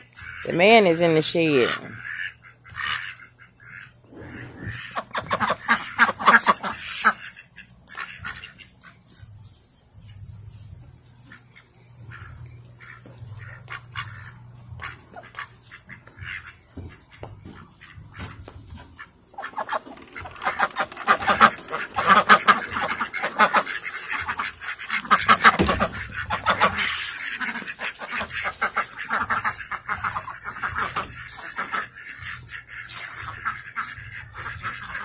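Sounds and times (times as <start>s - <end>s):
ducks quacking: 0.0s - 35.0s.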